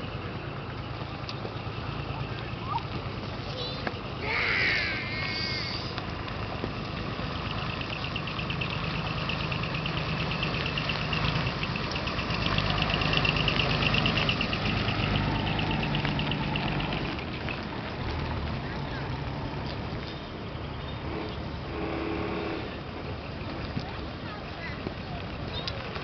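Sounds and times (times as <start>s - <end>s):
truck diesel engine clattering: 0.0s - 26.0s.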